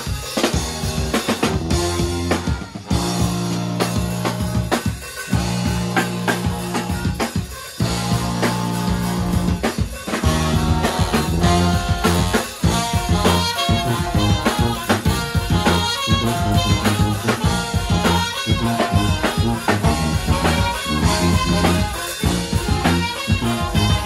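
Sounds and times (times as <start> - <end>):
brass band playing: 0.0 - 24.0
drum kit beat: 0.0 - 24.0
sousaphone bass line: 0.0 - 24.0.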